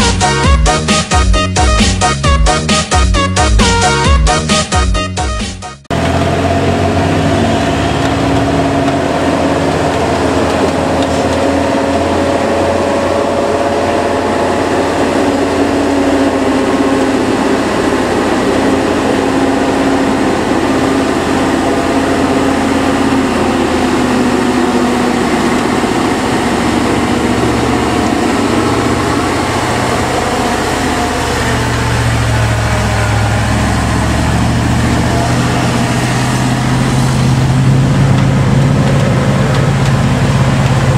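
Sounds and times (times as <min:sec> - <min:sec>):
truck diesel engines running: 0:00.0 - 0:40.9
deep low drone: 0:05.9 - 0:40.9.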